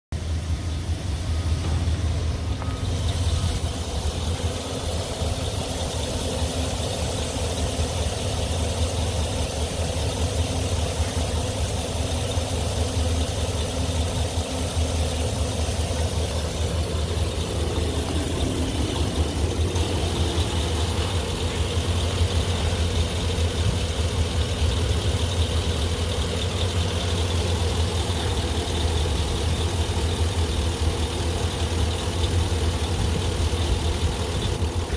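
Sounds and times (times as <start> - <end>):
pickup truck engine idling: 0.1 - 34.9.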